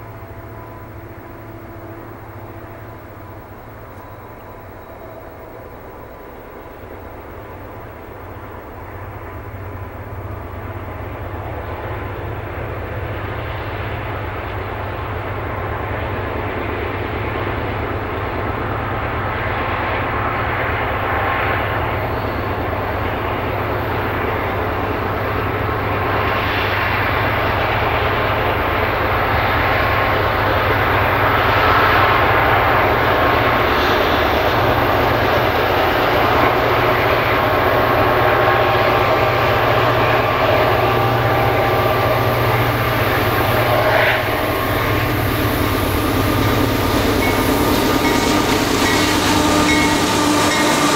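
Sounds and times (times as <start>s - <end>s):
diesel locomotive engines droning: 0.0s - 50.9s.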